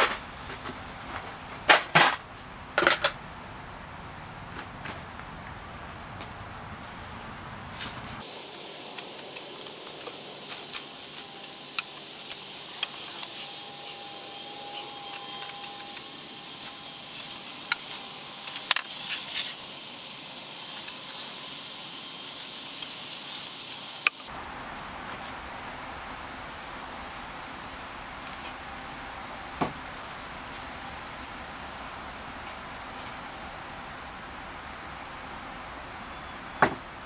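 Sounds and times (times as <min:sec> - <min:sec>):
steady hiss: 0:06.8 - 0:37.0.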